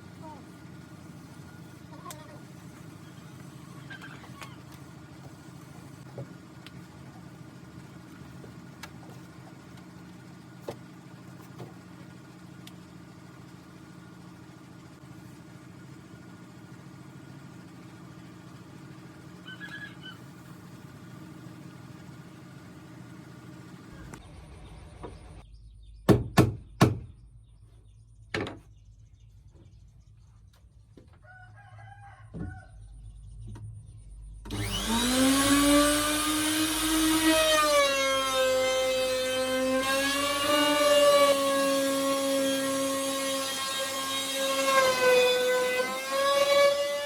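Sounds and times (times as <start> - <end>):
low motor hum: 0.0 - 47.0.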